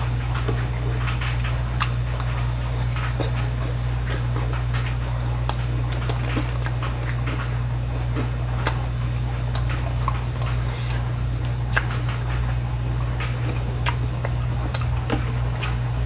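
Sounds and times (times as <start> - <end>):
people chewing fried food: 0.0 - 16.0
steady low hum: 0.0 - 16.0.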